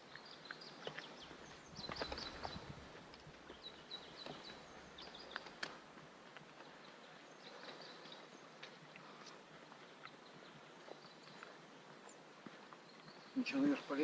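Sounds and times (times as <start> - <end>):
footsteps on trail: 0.0 - 14.0
small birds chirping: 0.0 - 14.0.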